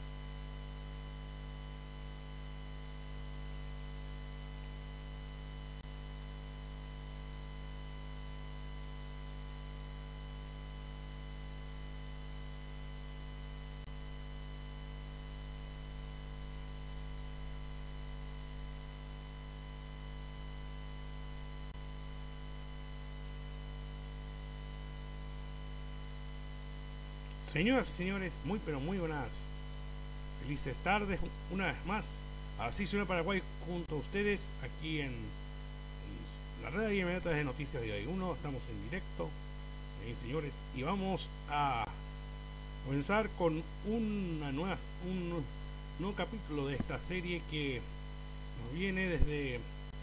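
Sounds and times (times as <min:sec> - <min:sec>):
electrical mains hum: 0:00.0 - 0:50.0.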